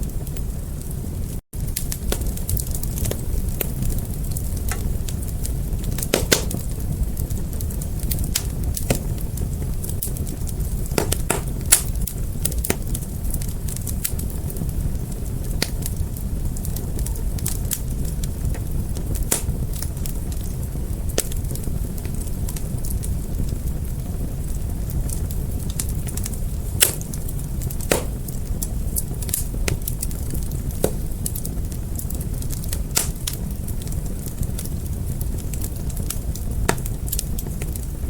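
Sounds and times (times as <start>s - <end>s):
fire crackling: 0.0s - 38.0s
low rumble of flames: 0.0s - 38.0s.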